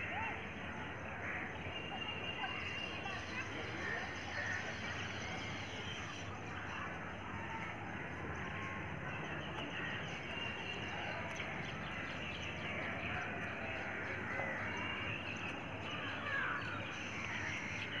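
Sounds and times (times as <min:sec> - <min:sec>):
low background noise: 0:00.0 - 0:18.0
small birds chirping: 0:00.0 - 0:18.0.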